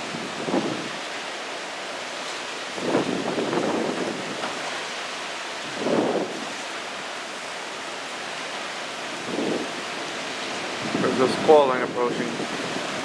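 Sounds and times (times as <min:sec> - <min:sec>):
rain: 0:00.0 - 0:13.0
wind gusts: 0:00.0 - 0:13.0.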